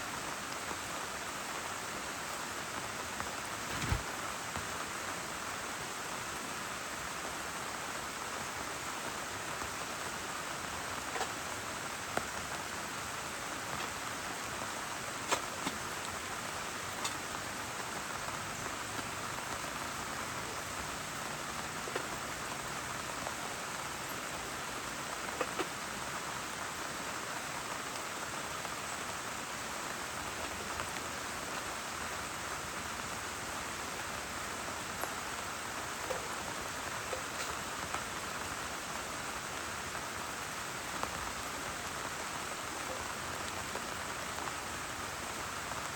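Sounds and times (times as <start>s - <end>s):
steady rainfall: 0.0s - 45.9s
raindrops ticking on a surface: 0.1s - 45.9s.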